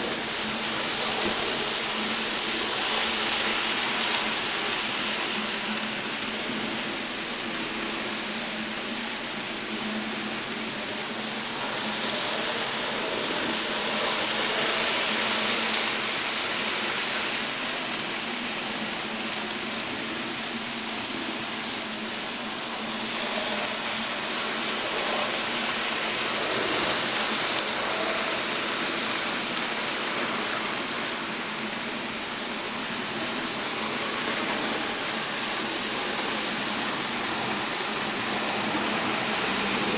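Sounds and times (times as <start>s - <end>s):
model trains whirring: 0.0s - 39.9s.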